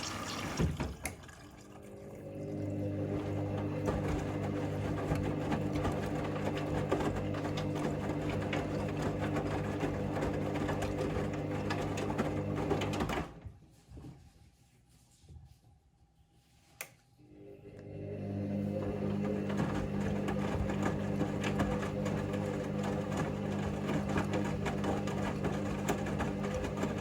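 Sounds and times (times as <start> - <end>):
washing machine humming and rattling: 0.0 - 14.4, 17.3 - 27.0.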